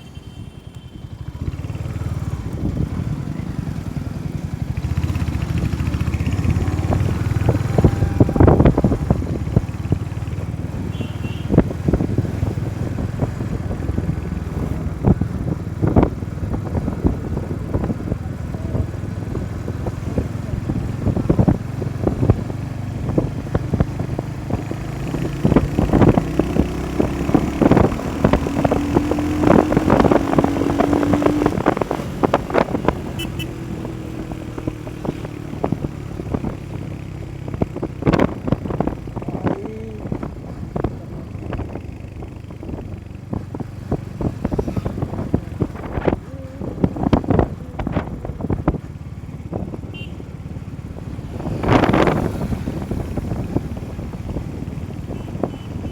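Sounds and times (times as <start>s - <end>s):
motorcycle engine running: 0.0s - 55.9s
wind buffeting microphone: 1.2s - 55.9s.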